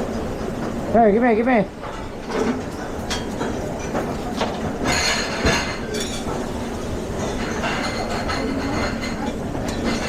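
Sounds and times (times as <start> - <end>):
dishes and utensils clinking: 1.8 - 10.0.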